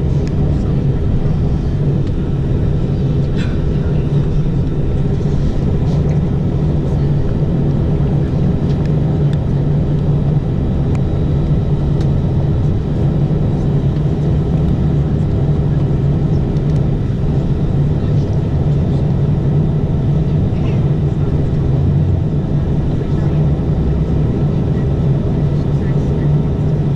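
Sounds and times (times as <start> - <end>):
jet engines running: 0.0 - 26.9.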